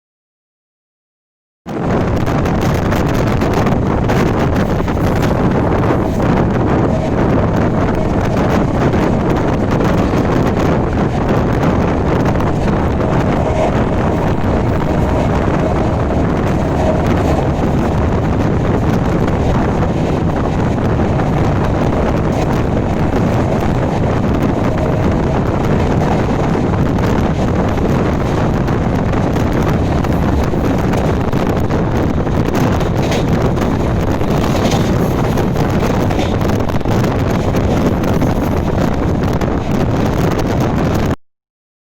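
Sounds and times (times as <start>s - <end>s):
train running rumble: 1.7s - 41.2s
wind buffeting microphone: 1.7s - 41.2s.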